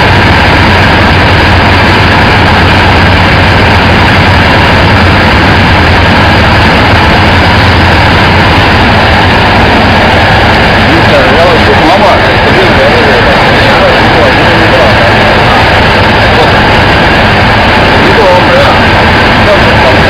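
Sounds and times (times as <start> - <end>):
machinery droning: 0.0 - 20.0.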